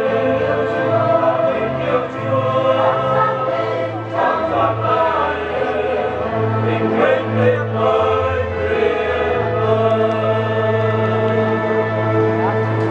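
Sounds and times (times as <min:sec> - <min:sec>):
choir singing a hymn: 0:00.0 - 0:12.9
sustained low accompaniment: 0:00.0 - 0:12.9.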